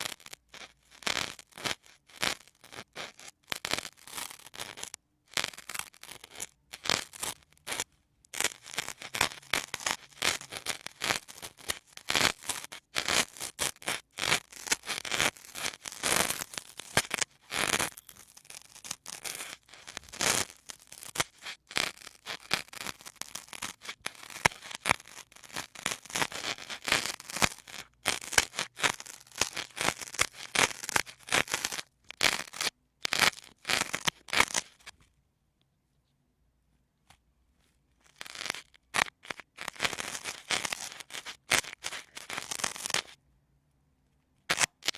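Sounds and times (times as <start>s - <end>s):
sponges scratching and rubbing: 0.0s - 34.9s, 38.0s - 43.2s, 44.5s - 44.9s.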